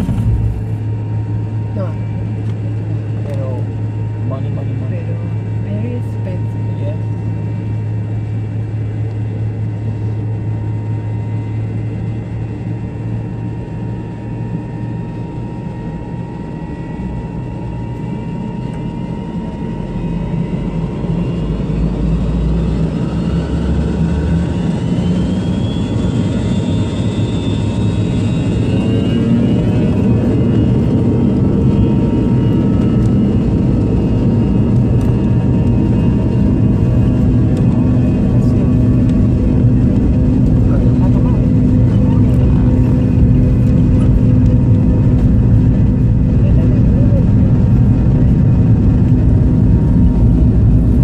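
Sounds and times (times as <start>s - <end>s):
jet engines heard from cabin: 0.0s - 51.0s.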